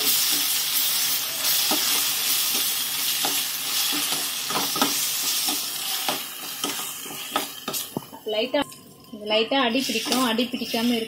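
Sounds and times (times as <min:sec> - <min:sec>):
food sizzling in a pan: 0:00.0 - 0:08.4, 0:09.7 - 0:11.0.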